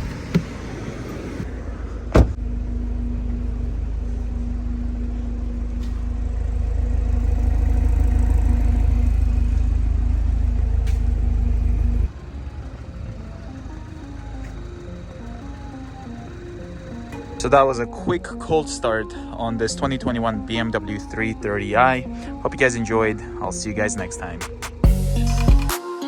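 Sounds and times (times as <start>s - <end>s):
car engine idling: 0.0s - 25.7s.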